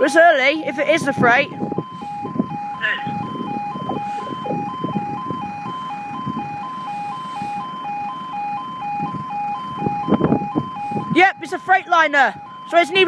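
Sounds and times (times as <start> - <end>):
two-tone warning alarm: 0.0 - 13.0.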